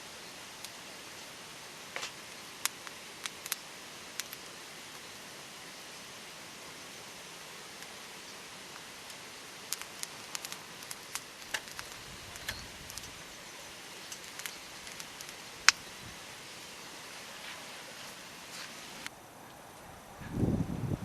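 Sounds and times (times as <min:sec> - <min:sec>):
steady hiss: 0:00.0 - 0:21.0
campfire crackling and popping: 0:00.6 - 0:05.5, 0:07.1 - 0:19.1.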